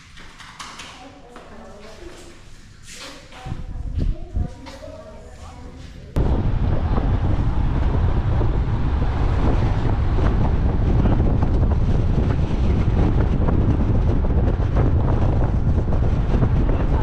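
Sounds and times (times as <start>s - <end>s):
wind buffeting microphone: 2.8s - 17.0s.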